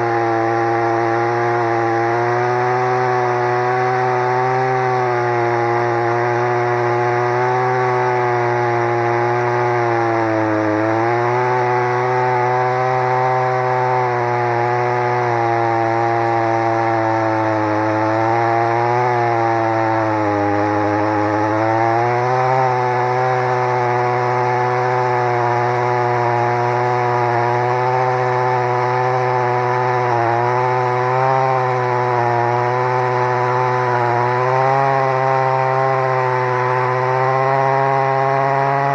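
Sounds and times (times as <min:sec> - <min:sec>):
chainsaw cutting through trunk: 0:00.0 - 0:38.9.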